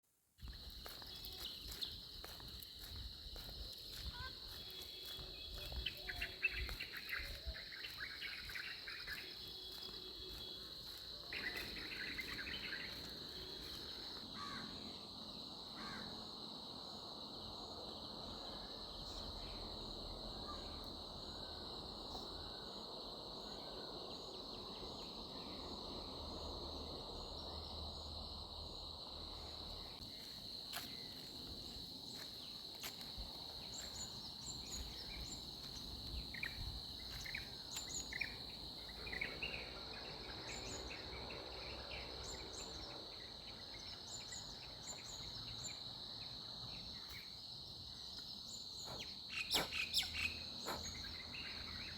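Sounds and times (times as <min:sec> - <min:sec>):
insects chirring: 0:00.4 - 0:51.9.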